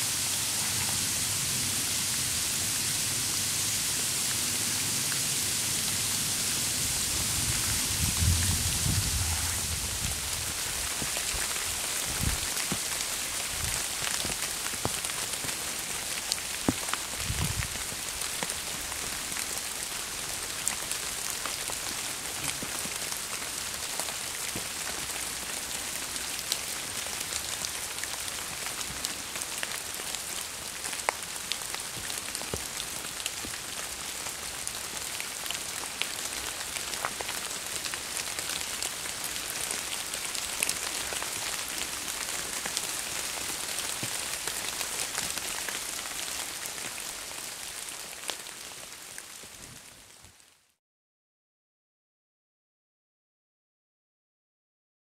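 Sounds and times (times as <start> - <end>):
sleety rain on leaves: 0.0 - 50.8.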